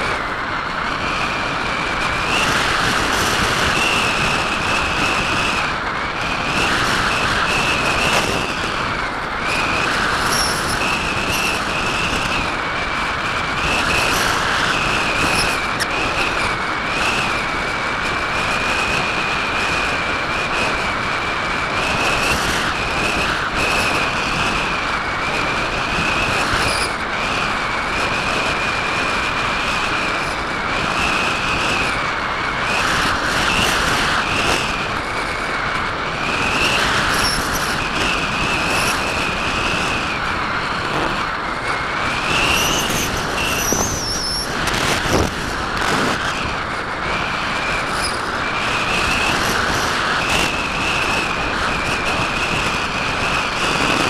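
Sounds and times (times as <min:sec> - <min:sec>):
high wavering whine: 0:00.0 - 0:54.0
rush of airflow: 0:00.0 - 0:54.0.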